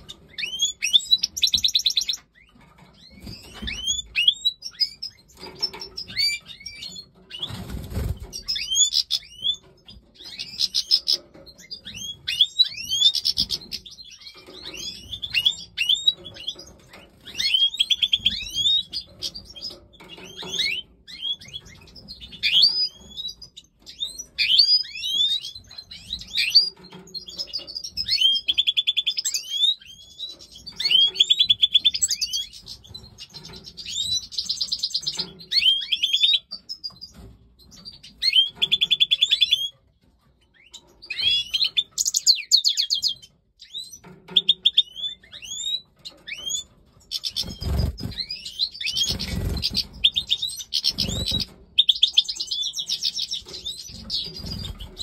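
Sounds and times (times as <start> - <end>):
goldfinch singing: 0.0 - 55.0.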